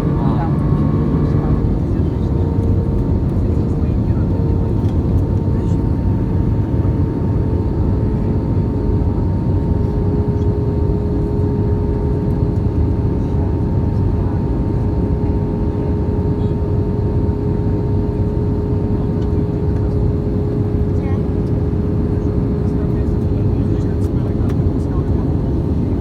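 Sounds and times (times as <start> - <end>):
airliner engine rumble and whine: 0.0 - 26.0.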